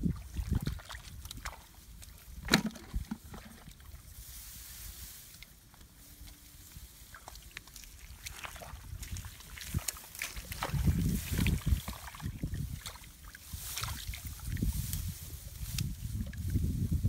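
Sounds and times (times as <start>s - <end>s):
hands sloshing in muddy water: 0.0s - 4.1s, 6.9s - 16.5s.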